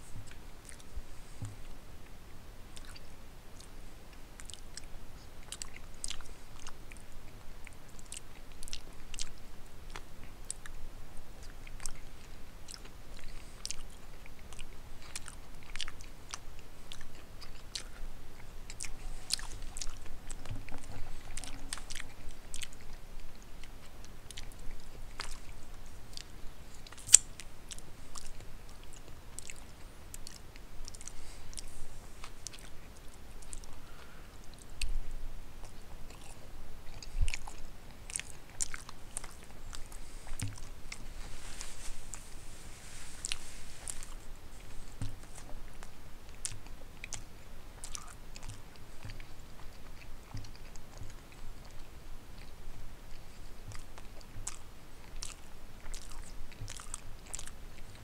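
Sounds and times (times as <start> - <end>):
close chewing with wet smacks: 0.1 - 42.3, 43.2 - 58.0.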